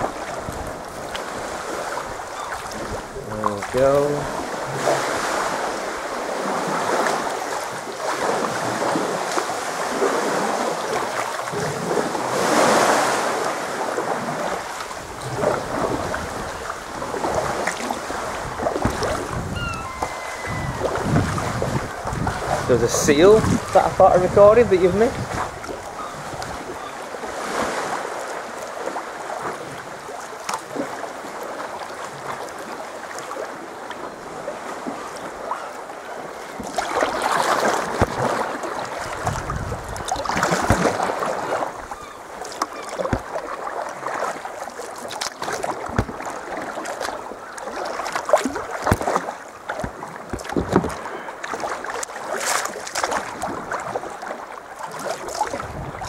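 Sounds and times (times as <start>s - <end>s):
water splashing around kayak: 0.0s - 56.0s.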